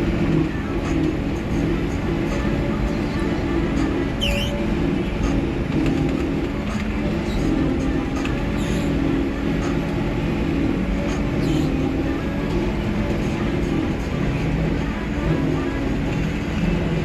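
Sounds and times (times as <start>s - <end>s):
diesel farm machinery engine drone: 0.0s - 17.0s.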